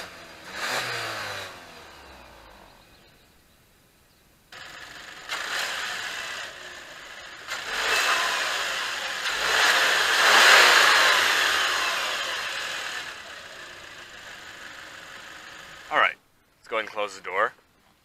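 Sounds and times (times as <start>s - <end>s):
car engine revving: 0.0s - 3.1s, 4.6s - 15.9s.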